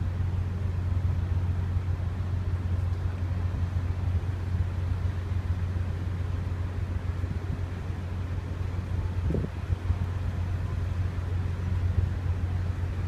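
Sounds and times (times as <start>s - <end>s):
faint rush of noise: 0.0s - 13.0s
ferry engines droning: 0.0s - 13.0s.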